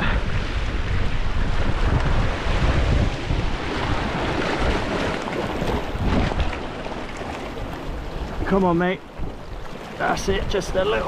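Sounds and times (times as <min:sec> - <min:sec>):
sea surf washing onto beach: 0:00.0 - 0:11.0
wind buffeting microphone: 0:00.0 - 0:11.0.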